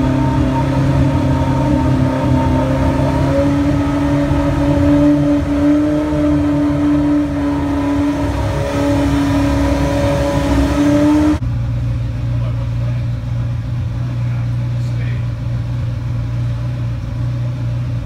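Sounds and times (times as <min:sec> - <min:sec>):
car engine idling: 0:00.0 - 0:18.0
low dull hum: 0:00.0 - 0:18.0.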